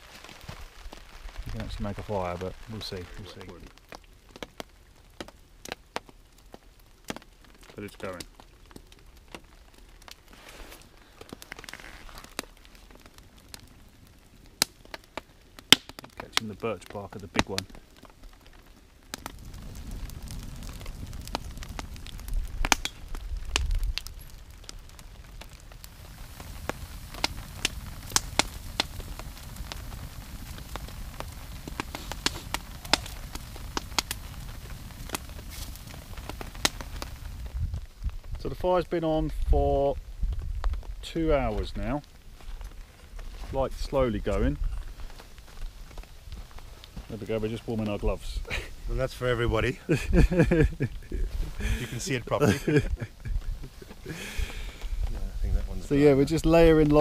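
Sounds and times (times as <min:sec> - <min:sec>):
fire crackling and popping: 0:00.0 - 0:57.0
soft fire hiss: 0:00.0 - 0:57.0.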